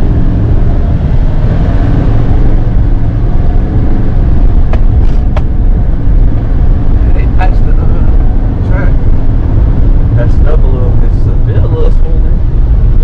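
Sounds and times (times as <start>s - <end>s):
pickup truck engine rumble: 0.0s - 13.0s
road noise: 0.0s - 13.0s.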